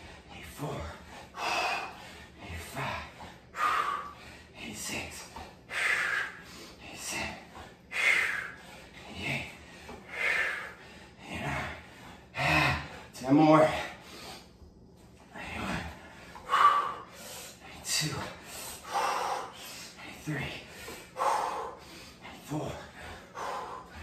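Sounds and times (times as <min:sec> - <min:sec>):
man breathing hard: 0:00.0 - 0:24.0.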